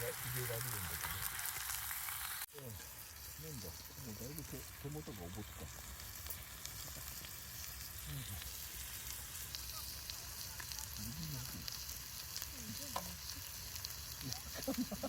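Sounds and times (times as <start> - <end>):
fire crackling and popping: 0.0 - 15.0
steak sizzling on a grill: 0.0 - 15.0.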